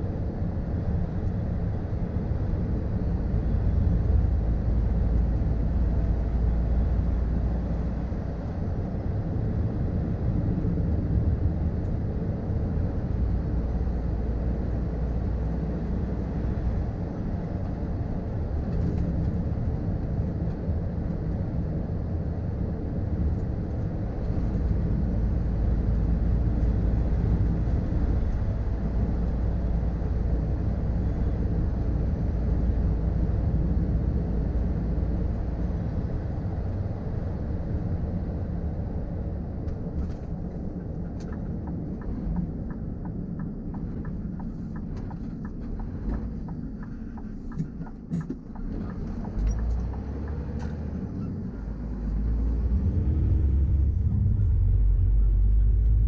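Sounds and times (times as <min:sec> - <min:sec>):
diesel engine drone: 0:00.0 - 0:56.0
road noise: 0:00.0 - 0:56.0.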